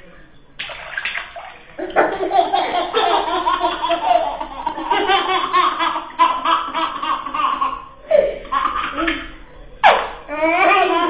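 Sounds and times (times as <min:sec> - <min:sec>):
babies laughing: 0:01.8 - 0:11.0.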